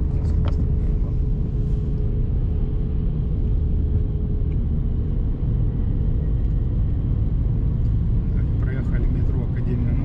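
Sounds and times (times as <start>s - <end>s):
road and engine rumble in car: 0.0s - 10.0s.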